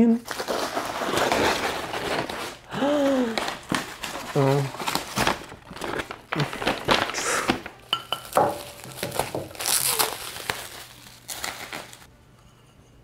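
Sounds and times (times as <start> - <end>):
bubble wrap crinkling: 0.0 - 12.1
paper rustling and crumpling: 0.2 - 12.1.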